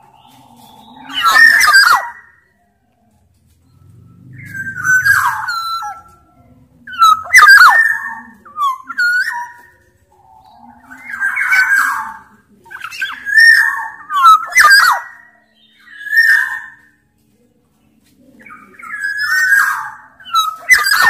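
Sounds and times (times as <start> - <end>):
bird calling with whistled notes: 0.0 - 2.4, 4.2 - 6.2, 6.9 - 17.0, 18.4 - 21.0.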